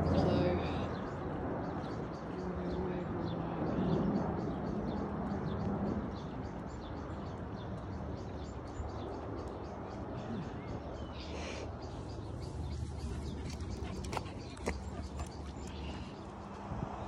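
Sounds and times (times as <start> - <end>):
aircraft drone overhead: 0.0 - 17.0.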